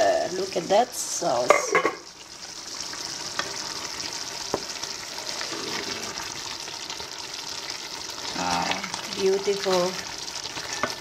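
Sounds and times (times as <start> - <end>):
sauce simmering with sizzling hiss: 0.0 - 11.0.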